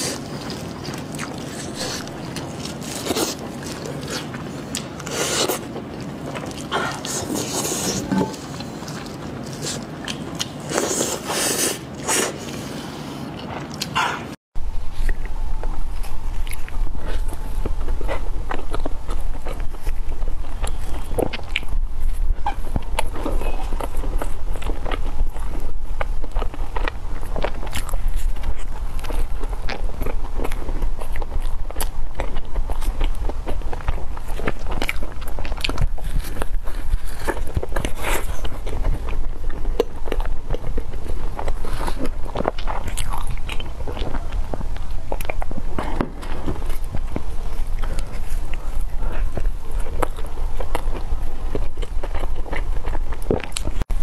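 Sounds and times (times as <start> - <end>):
chewing crunchy toast: 0.0 - 14.3, 14.9 - 54.0.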